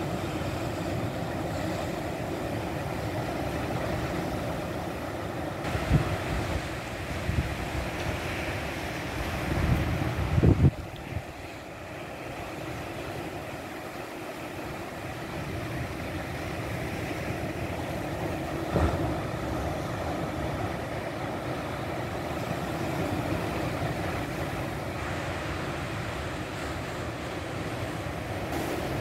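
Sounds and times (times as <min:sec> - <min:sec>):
sea surf washing on shore: 0:00.0 - 0:29.0.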